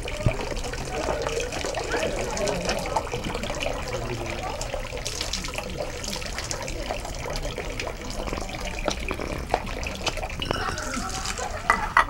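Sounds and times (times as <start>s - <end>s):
water dripping: 0.0s - 12.0s
water poured onto stone: 0.0s - 12.0s
water splashing into basin: 0.0s - 12.0s.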